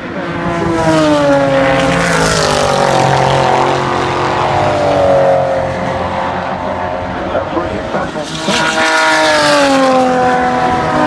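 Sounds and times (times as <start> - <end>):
racing car engines passing: 0.0 - 11.0.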